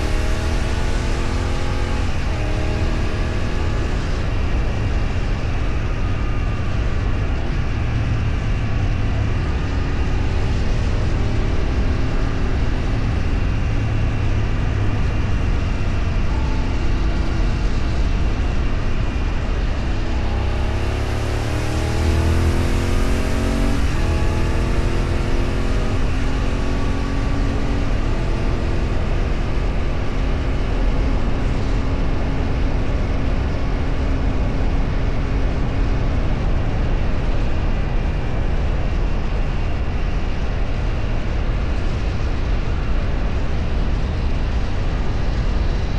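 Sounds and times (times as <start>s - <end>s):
road and wind noise: 0.0s - 45.9s
vehicle engine accelerating: 0.0s - 45.9s.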